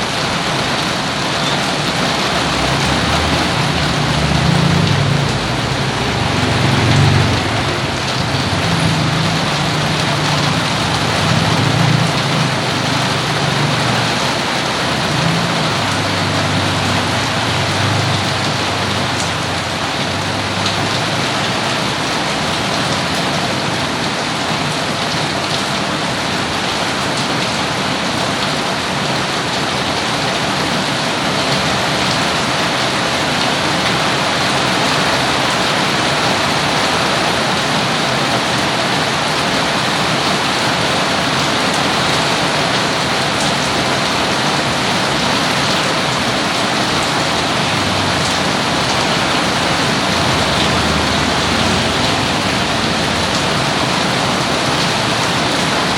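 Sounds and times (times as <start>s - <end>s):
rain pattering on surfaces: 0.0s - 55.9s.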